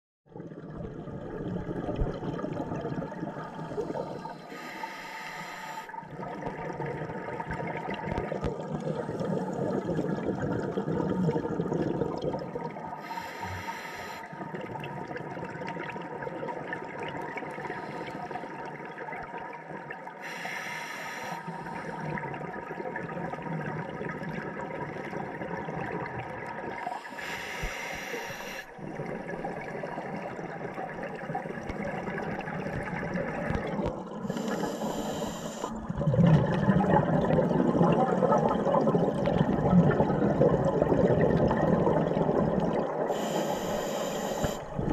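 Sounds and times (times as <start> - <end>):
exhaled bubbles underwater: 0.3 - 20.6, 21.2 - 44.9
underwater rushing noise: 0.4 - 44.9.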